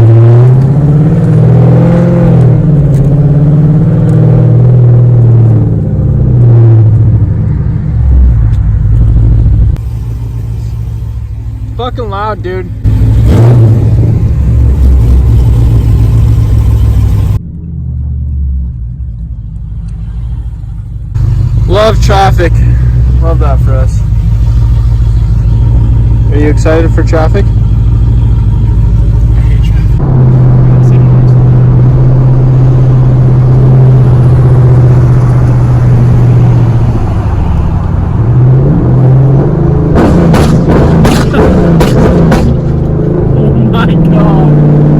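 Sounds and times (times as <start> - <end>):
car exhaust deep rumble: 0.0 - 44.9.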